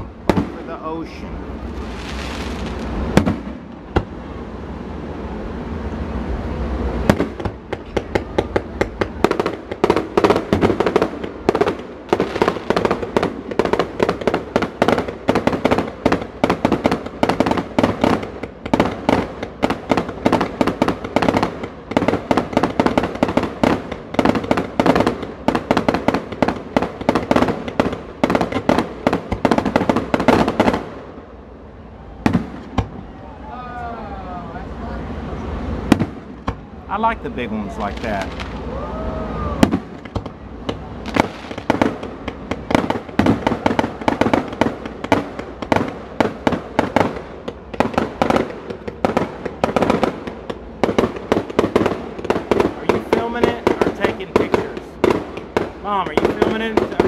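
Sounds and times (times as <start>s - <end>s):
firework bangs and crackles: 0.0s - 33.2s, 34.6s - 57.0s.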